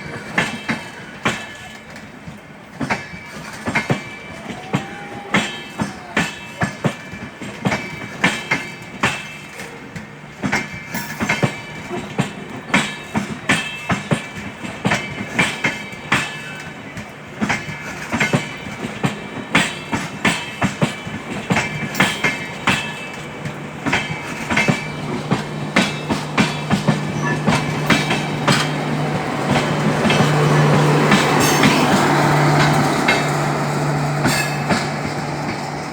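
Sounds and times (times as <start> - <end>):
train wheels clicking over rail joints: 0.0 - 35.9.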